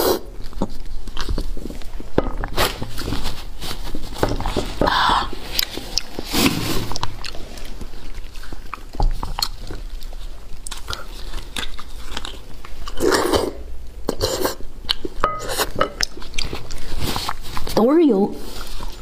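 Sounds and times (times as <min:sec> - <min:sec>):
wet chewing: 0:00.0 - 0:03.6, 0:04.3 - 0:17.8.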